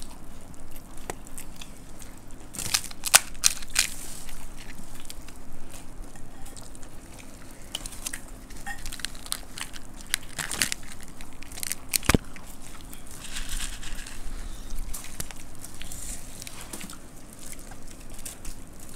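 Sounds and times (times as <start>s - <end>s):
chewing: 0.0s - 18.9s
crunching puffed rice and snacks: 0.0s - 18.9s.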